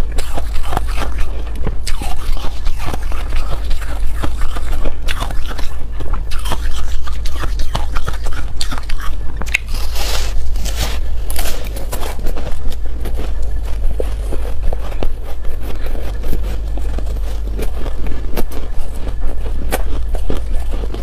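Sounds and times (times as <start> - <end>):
chewing crunchy ice: 0.0 - 21.0.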